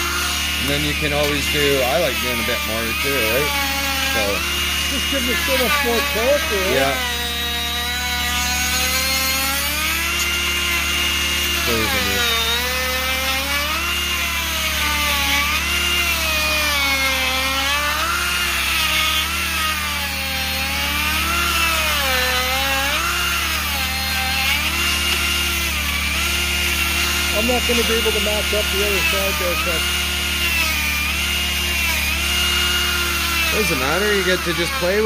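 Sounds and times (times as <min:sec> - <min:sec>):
rotary tool grinding wood: 0:00.0 - 0:35.0.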